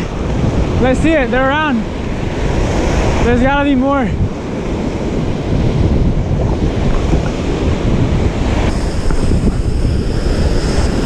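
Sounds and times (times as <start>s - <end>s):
ocean surf foaming: 0.0s - 11.0s
wind buffeting microphone: 0.0s - 11.0s.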